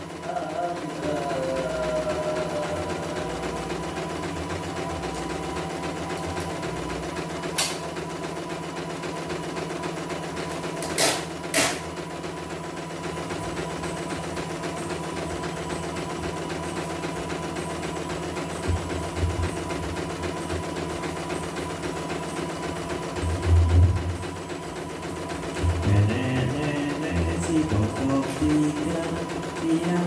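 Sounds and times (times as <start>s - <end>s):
embroidery machine running: 0.0s - 30.0s.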